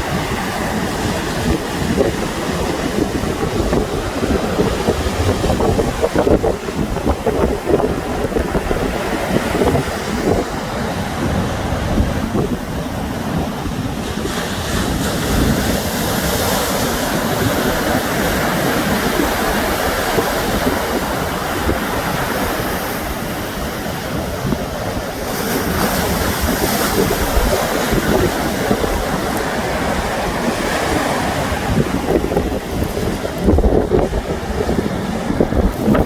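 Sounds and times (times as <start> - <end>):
sea waves breaking on shore: 0.0 - 36.0
wind rumbling on microphone: 0.0 - 36.0.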